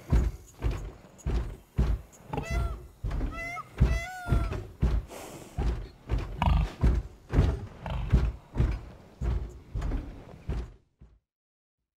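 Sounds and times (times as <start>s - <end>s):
heavy thudding rhinoceros footsteps: 0.0s - 11.2s.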